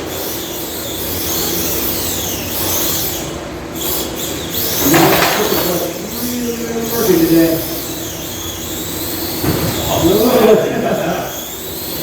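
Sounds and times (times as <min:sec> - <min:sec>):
rc truck electric motor whining: 0:00.0 - 0:12.0.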